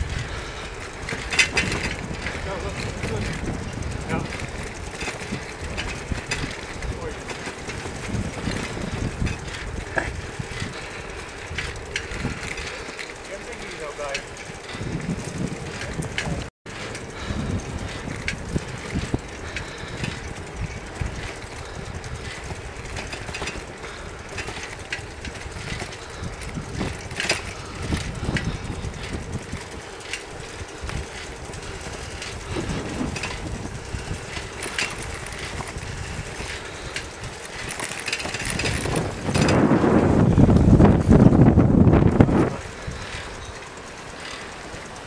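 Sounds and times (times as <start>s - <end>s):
bicycle clicks and rattles: 0.0s - 45.0s
wind buffeting microphone: 0.0s - 45.0s.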